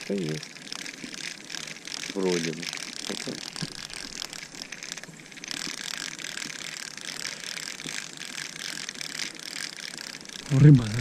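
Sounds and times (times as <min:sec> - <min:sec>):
fishing reel gears clicking: 0:00.0 - 0:11.0.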